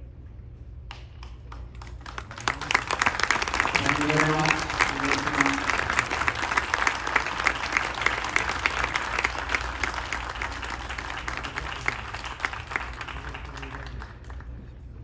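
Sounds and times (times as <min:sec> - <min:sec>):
audience applauding: 0:01.5 - 0:14.8.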